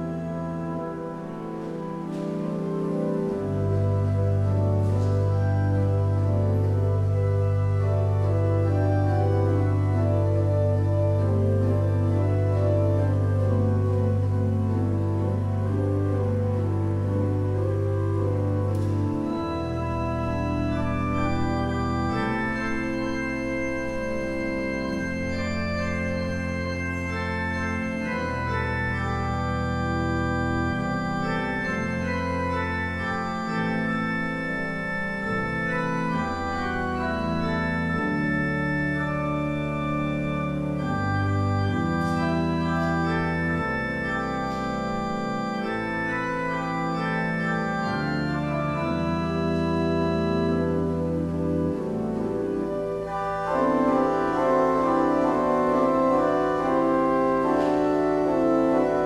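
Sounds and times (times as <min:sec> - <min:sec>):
church organ sustained chords: 0:00.0 - 0:59.0.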